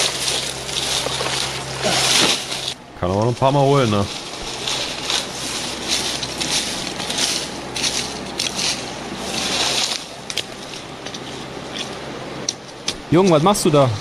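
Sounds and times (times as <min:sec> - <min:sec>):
rough rustling and scraping: 0:00.0 - 0:14.0.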